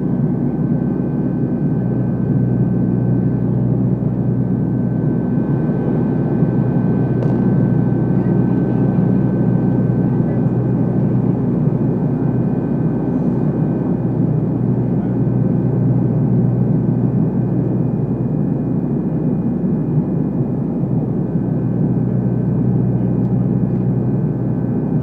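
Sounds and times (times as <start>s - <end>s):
turboprop cabin drone: 0.0s - 25.0s.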